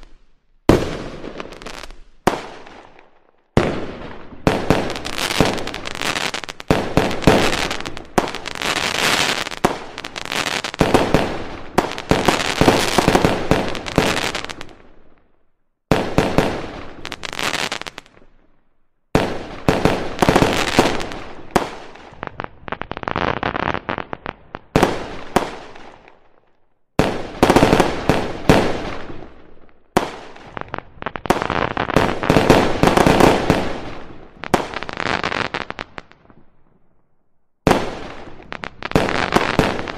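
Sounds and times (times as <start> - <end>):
fireworks bursting and crackling: 0.0 - 18.5, 19.1 - 36.9, 37.6 - 39.9.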